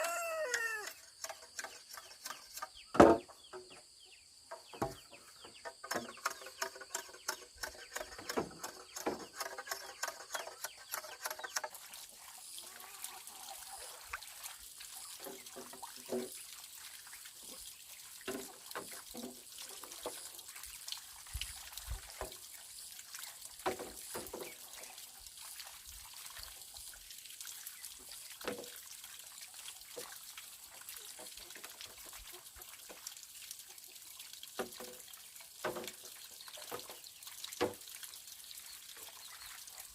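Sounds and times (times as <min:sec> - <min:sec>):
water trickling: 0:04.7 - 0:39.9.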